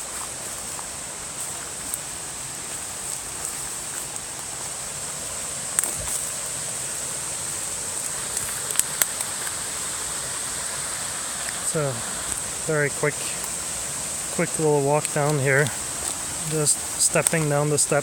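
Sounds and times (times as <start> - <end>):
footsteps on trail: 0.0 - 18.0
stream and waterfall rushing: 0.0 - 18.0.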